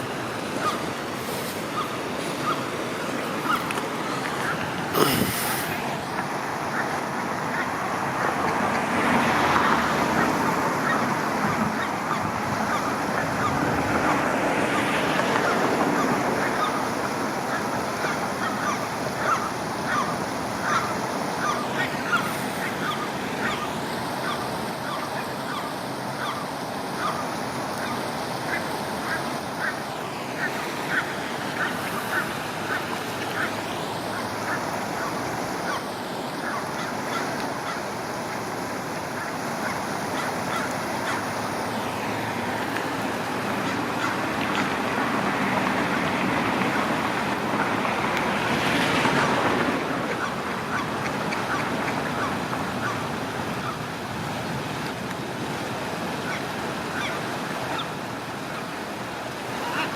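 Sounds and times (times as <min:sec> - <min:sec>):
flowing water: 0:00.0 - 0:59.9
geese honking: 0:00.4 - 0:53.8, 0:56.3 - 0:57.9.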